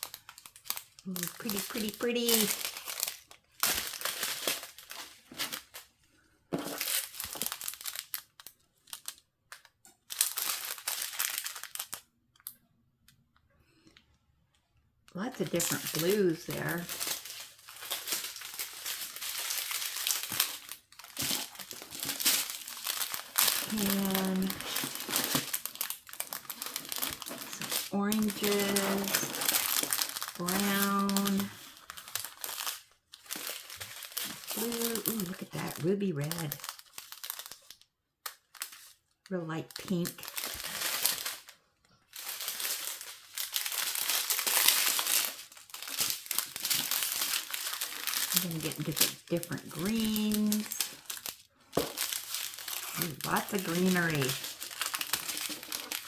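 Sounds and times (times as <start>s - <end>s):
plastic bags crinkling: 0.0s - 12.5s, 15.1s - 56.0s.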